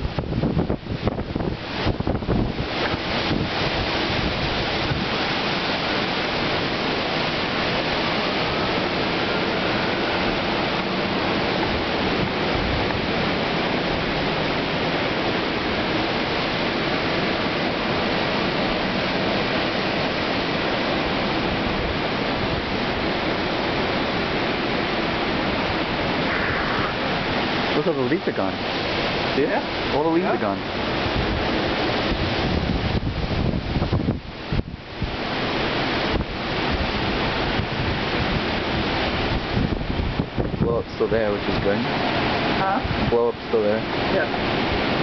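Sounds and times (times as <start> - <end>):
storm wind blowing through trees: 0.0 - 45.0.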